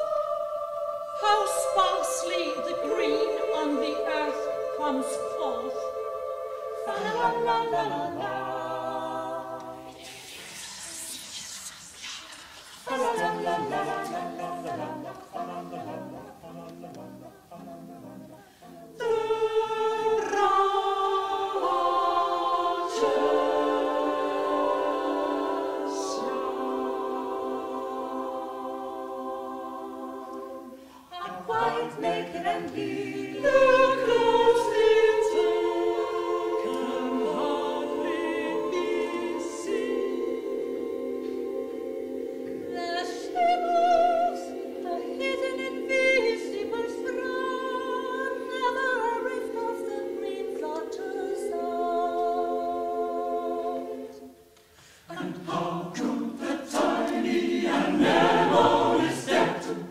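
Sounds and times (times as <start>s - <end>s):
choir singing sustained chords: 0.0s - 59.9s.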